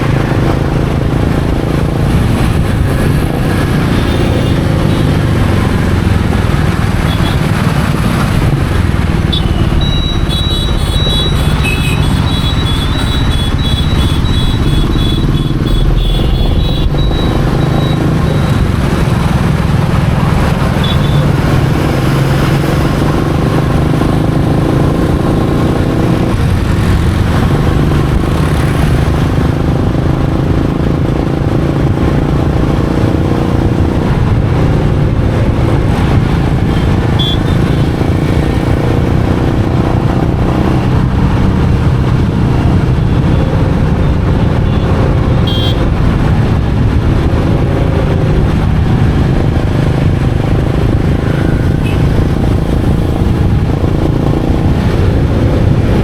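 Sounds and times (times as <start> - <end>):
motorcycle engine cruising: 0.0 - 56.0
road and traffic noise: 0.0 - 56.0.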